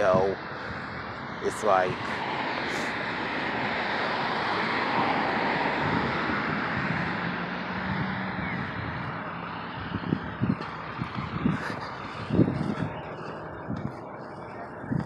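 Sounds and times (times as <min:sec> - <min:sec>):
vehicle passing: 0:00.4 - 0:15.0.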